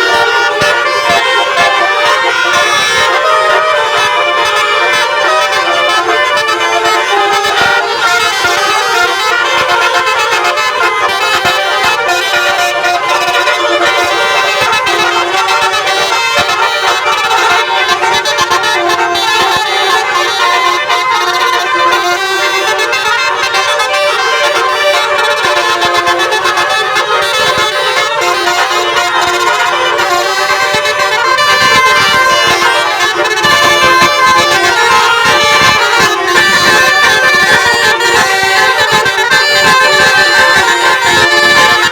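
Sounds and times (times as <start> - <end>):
musical bus horns playing melodies: 0.0 - 41.9.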